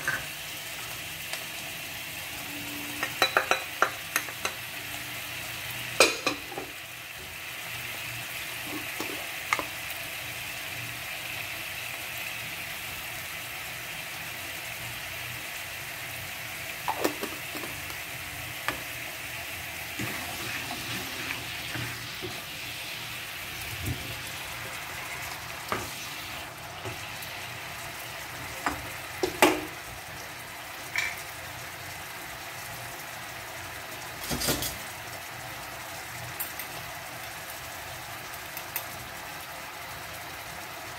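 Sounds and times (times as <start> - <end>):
sauce simmering and sizzling: 0.0 - 40.9.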